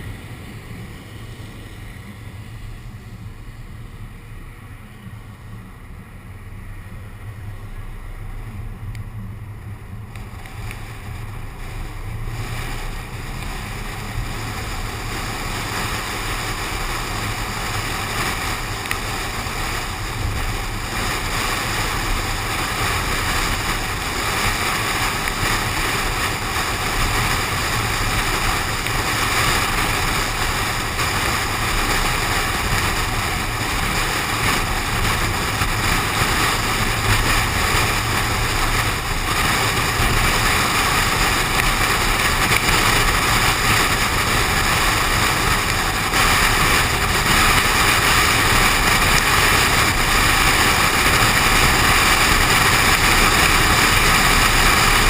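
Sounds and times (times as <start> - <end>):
car wind and wet road noise: 0.0 - 55.0.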